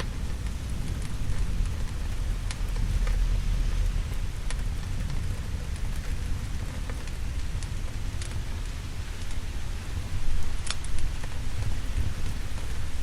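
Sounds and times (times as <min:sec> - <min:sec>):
heavy rain: 0:00.0 - 0:13.0
low thunder rumble: 0:00.0 - 0:13.0
wood fire crackling: 0:00.0 - 0:13.0.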